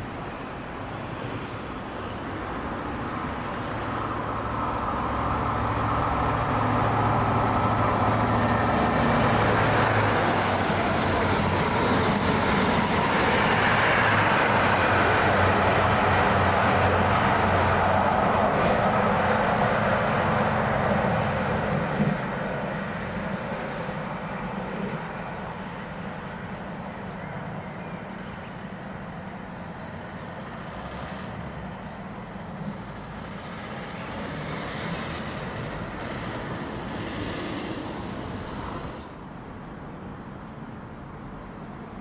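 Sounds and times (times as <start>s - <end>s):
train engine drone and rail noise: 0.0s - 42.0s.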